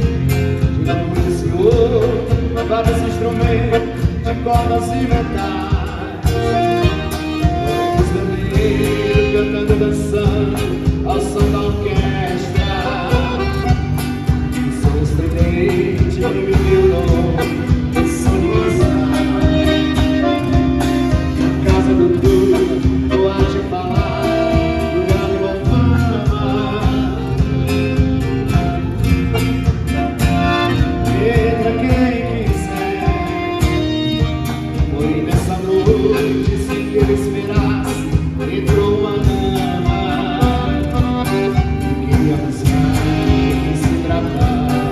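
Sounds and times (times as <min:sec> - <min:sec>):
person singing: 0:00.0 - 0:28.8, 0:30.3 - 0:44.9
guitar: 0:00.0 - 0:44.9
steady beat: 0:00.0 - 0:44.9.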